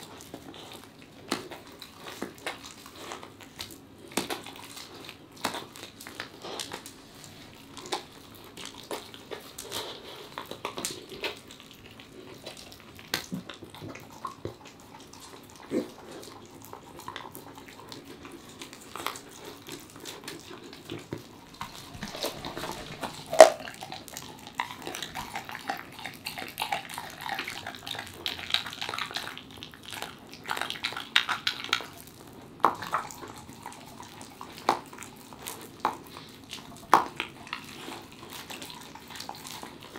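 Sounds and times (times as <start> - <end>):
teeth clicking on meat: 0.0 - 7.0, 7.6 - 39.9
dog licking and chewing: 0.0 - 39.9.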